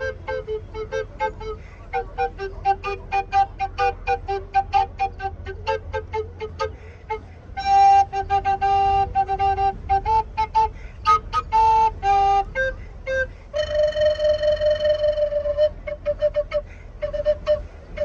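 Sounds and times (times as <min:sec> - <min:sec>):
tenor recorders playing a tune: 0:00.0 - 0:18.0.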